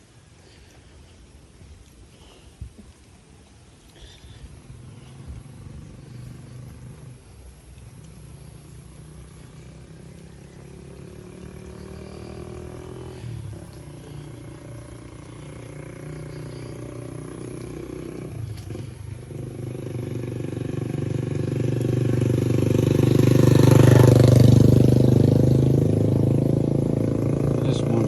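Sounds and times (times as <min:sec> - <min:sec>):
vehicle engine passing by: 0:04.0 - 0:28.0.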